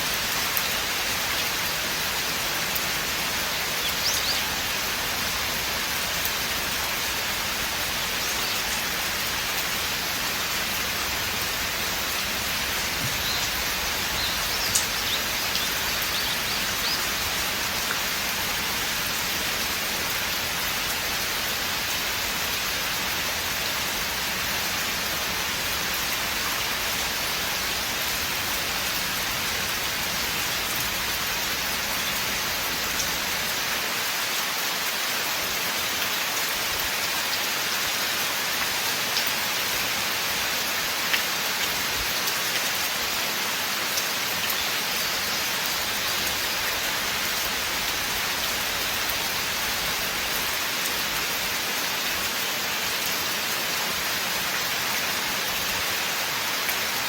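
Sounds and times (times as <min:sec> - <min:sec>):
steady rain in forest: 0:00.0 - 0:57.0.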